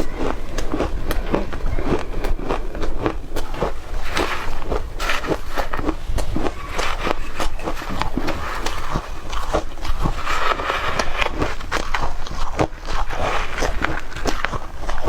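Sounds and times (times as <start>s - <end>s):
shaved ice being chewed: 0.0s - 15.0s.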